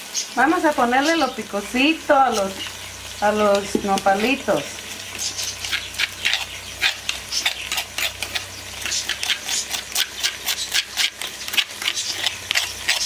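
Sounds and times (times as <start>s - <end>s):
spoon scraping stone mortar: 0.8s - 13.0s.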